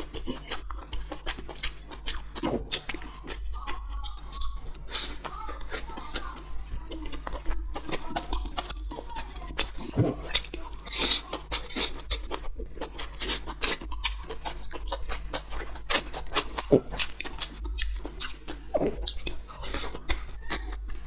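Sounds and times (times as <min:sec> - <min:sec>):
chewing with wet mouth clicks: 0:00.0 - 0:21.0
steady low hum: 0:00.0 - 0:21.0.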